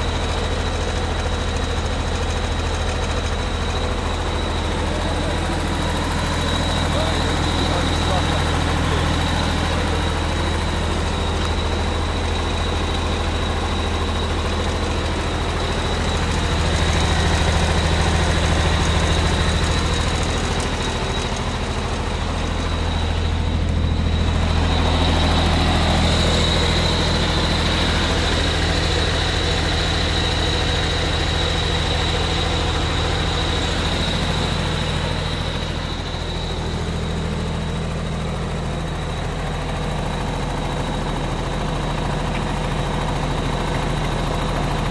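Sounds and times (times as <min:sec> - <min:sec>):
paver diesel engine running: 0:00.0 - 0:44.9.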